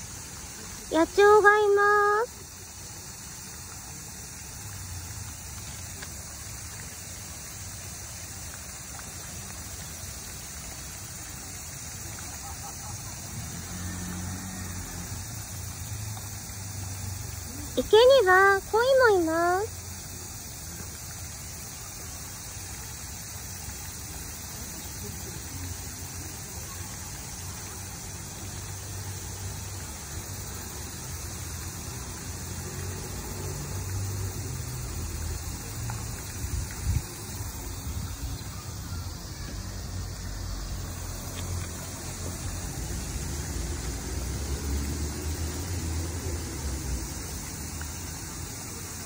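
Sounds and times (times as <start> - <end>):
fountain spray hissing onto water: 0.0 - 49.0.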